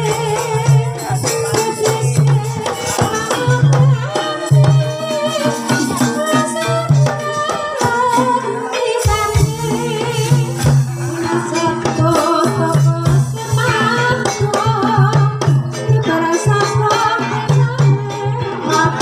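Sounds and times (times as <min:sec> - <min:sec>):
hand drum strokes: 0:00.0 - 0:19.0
woman singing: 0:00.0 - 0:19.0.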